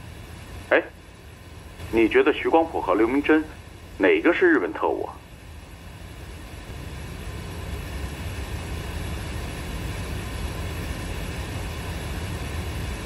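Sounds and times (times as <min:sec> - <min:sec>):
tape hiss and low rumble: 0:00.0 - 0:13.0.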